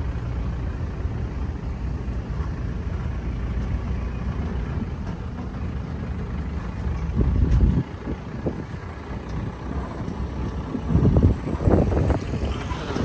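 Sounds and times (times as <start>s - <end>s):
wind buffeting microphone: 0.9s - 13.0s.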